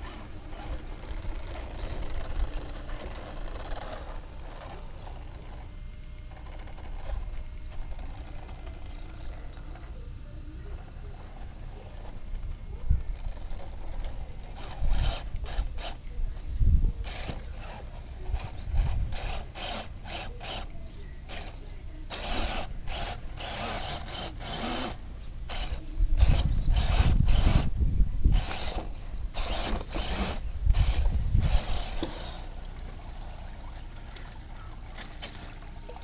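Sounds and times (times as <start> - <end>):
toy car tyres scraping on wood: 0.0 - 10.0, 10.6 - 33.5.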